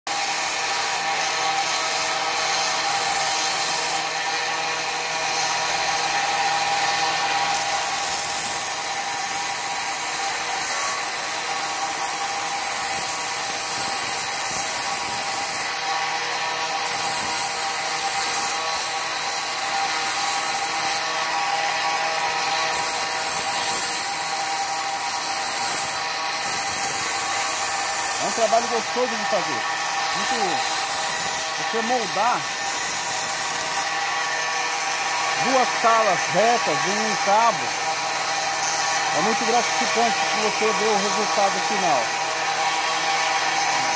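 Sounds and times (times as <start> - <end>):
belt grinder sanding wood: 0.1 - 43.9.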